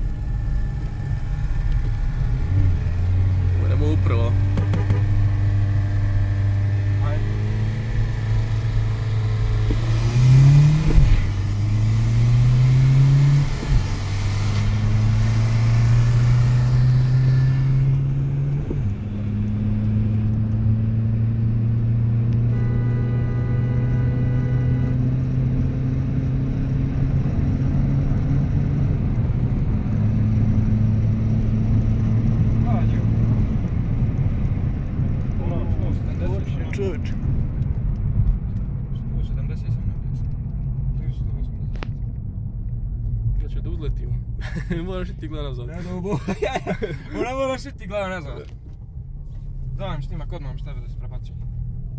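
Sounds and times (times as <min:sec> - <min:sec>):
car engine at full throttle: 0:00.0 - 0:51.9.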